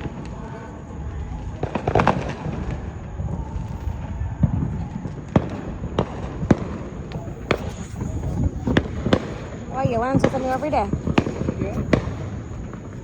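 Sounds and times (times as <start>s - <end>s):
fireworks bangs: 0.0s - 13.0s
low background noise: 0.0s - 13.0s.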